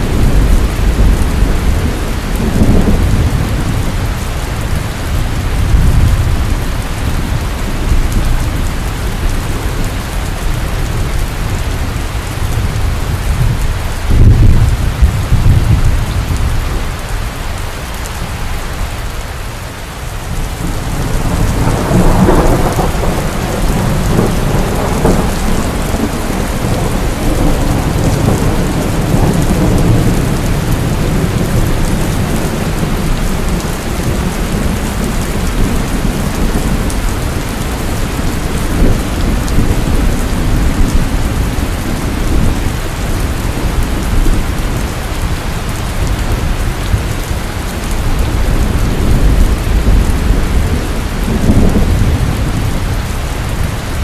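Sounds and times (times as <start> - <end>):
low rolling thunder: 0.0 - 17.4, 20.1 - 54.0
heavy rain falling: 0.0 - 54.0.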